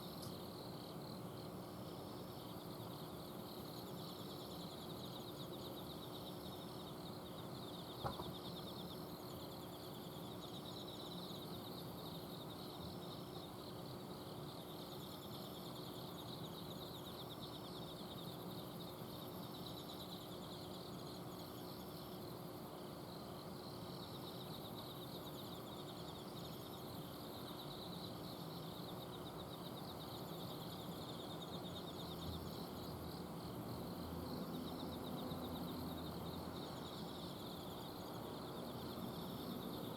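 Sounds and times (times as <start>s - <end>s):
air conditioner unit humming: 0.0s - 39.9s
insects chirping in trills: 0.0s - 39.9s.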